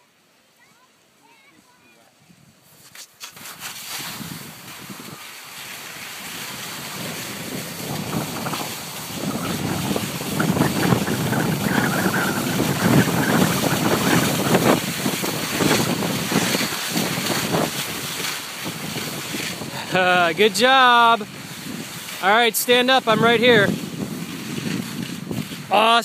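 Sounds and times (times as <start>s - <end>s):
skis scraping over snow: 2.6s - 26.0s
wind on microphone: 3.4s - 26.0s.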